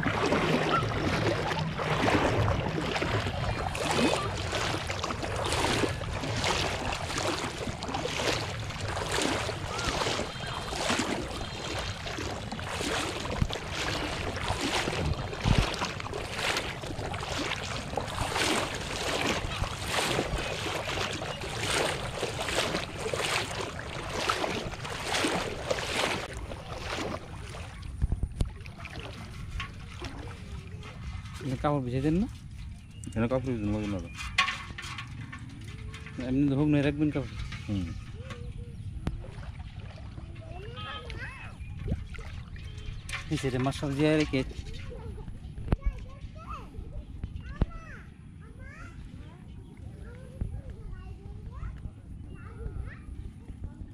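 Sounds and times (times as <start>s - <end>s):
water splashing and sloshing: 0.0s - 53.9s.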